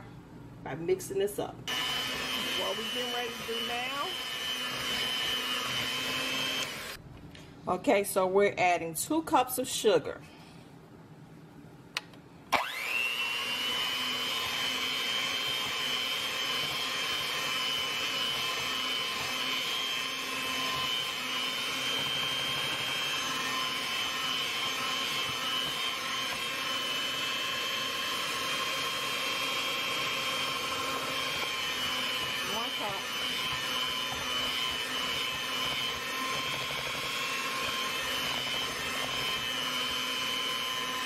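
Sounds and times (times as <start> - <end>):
electric hand mixer whine: 1.7 - 7.0, 12.5 - 41.0.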